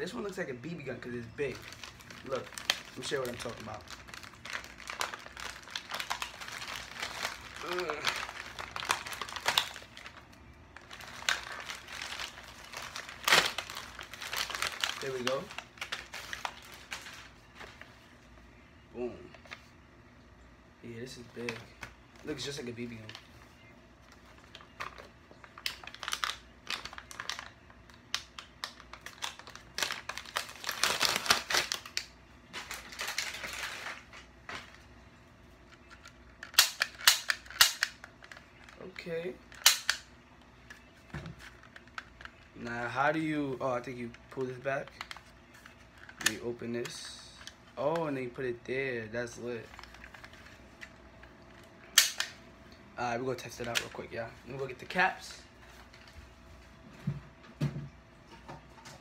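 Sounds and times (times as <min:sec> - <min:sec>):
plastic wrapping crinkling: 0:00.0 - 0:18.3, 0:21.3 - 0:48.1, 0:49.5 - 0:52.4.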